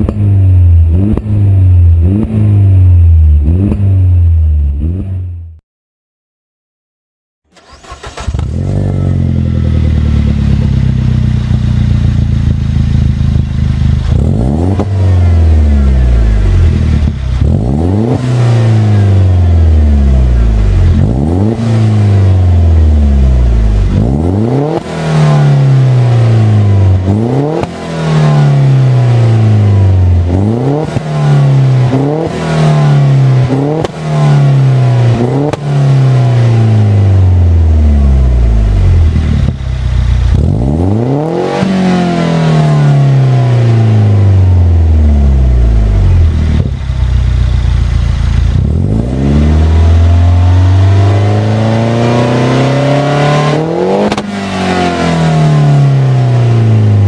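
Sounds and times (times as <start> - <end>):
car engine revving: 0.0 - 5.4, 7.5 - 57.0.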